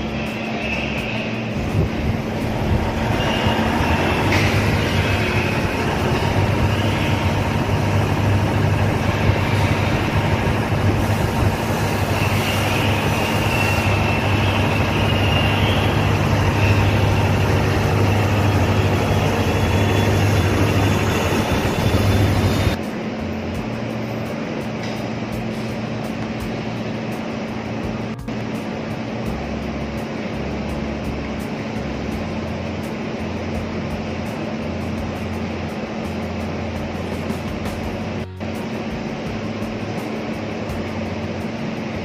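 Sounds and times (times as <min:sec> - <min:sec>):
diesel generator droning: 0:00.0 - 0:42.0.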